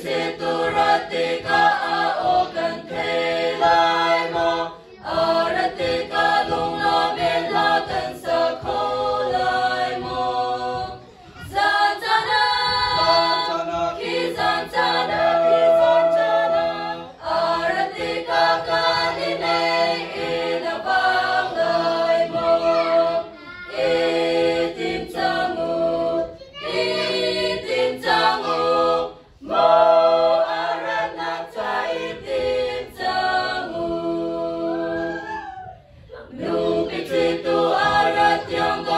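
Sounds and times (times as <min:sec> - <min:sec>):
women's choir singing: 0:00.0 - 0:38.9.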